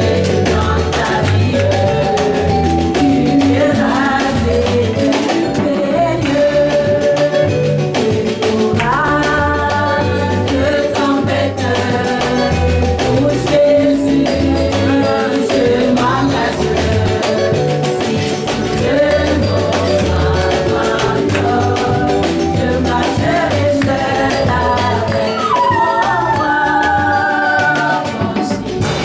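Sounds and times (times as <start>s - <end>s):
instrumental accompaniment with beat: 0.0s - 29.0s
women singing worship song: 0.0s - 29.0s.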